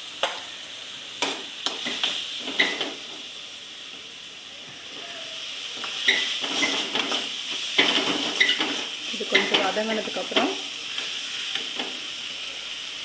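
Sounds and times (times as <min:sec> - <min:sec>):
masala sizzling in hot oil: 0:00.0 - 0:13.0.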